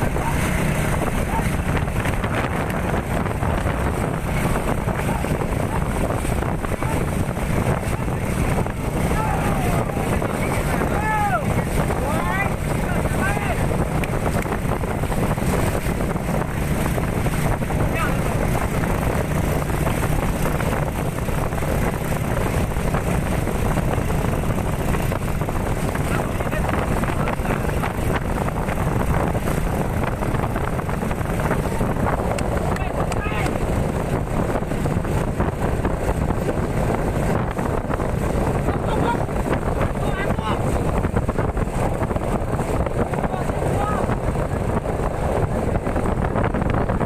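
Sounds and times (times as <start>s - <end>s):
dense rushing background: 0.0s - 47.0s
wind buffeting microphone: 0.0s - 47.0s.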